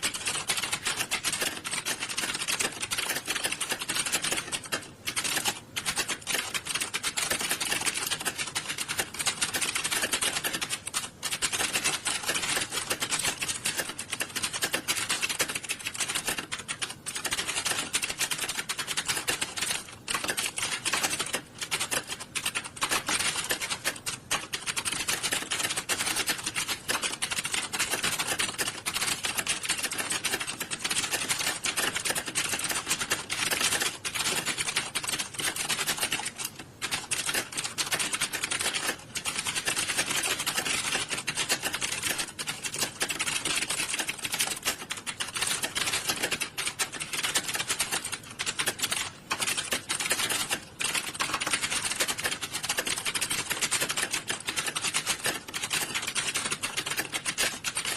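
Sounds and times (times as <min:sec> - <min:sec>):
many keyboards clattering: 0:00.0 - 0:57.9.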